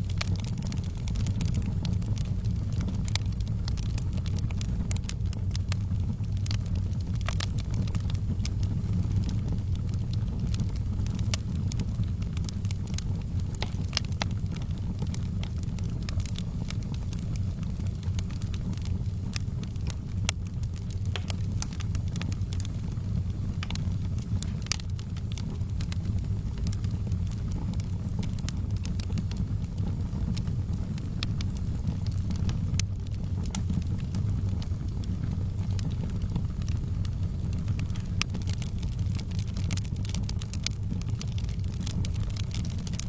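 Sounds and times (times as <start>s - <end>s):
fire crackling and popping: 0.0s - 43.0s
fire rumbling: 0.0s - 43.0s.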